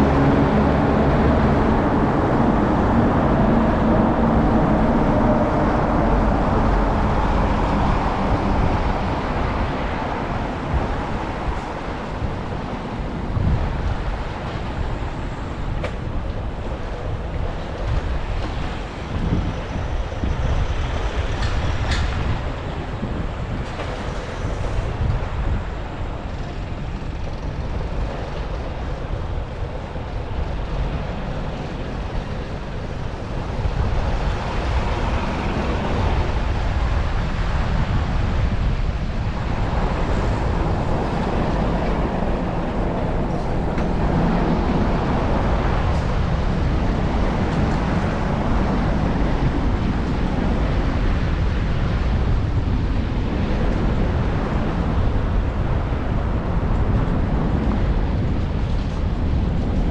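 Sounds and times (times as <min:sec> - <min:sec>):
road and traffic noise: 0:00.0 - 0:59.9
wind rumbling on microphone: 0:00.0 - 0:59.9.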